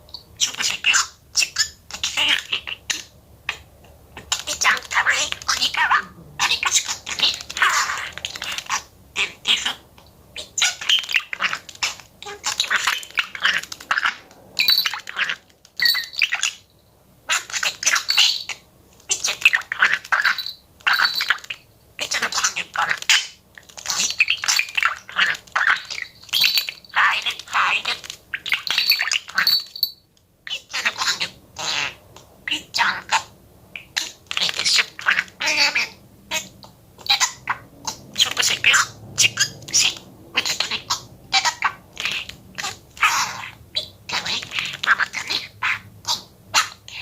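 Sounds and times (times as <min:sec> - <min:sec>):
budgerigar chattering and warbling: 0:00.4 - 0:16.7, 0:17.3 - 0:29.8, 0:30.5 - 0:47.0.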